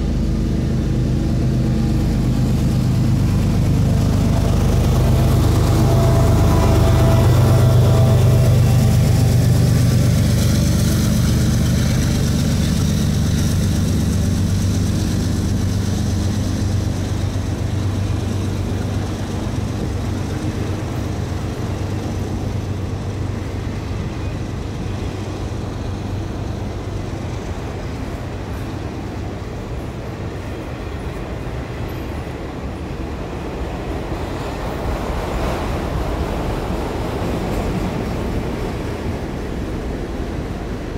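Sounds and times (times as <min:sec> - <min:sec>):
train wheels clattering on rail: 0:00.0 - 0:40.9.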